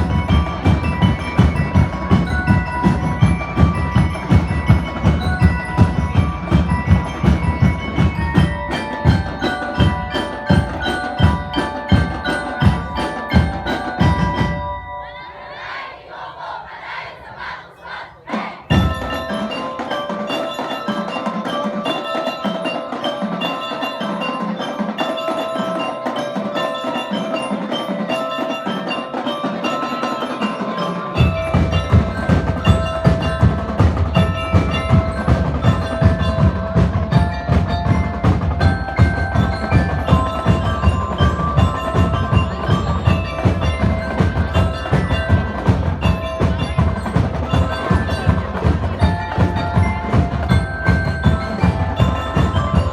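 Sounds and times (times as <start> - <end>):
bell lyre melody: 0.0 - 15.8, 18.7 - 52.9
drums beating steadily: 0.0 - 52.9.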